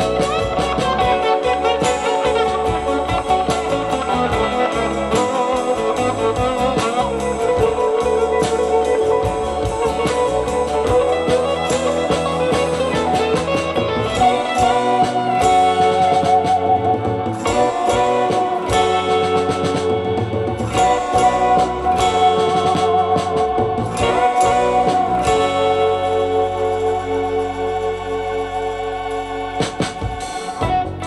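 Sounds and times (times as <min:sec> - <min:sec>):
guitar music from loudspeakers: 0:00.0 - 0:31.0.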